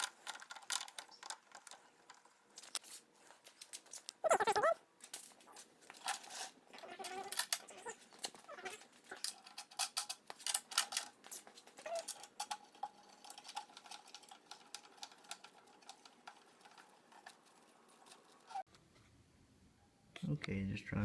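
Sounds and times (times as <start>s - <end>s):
rustling of things handled: 0.0s - 18.7s.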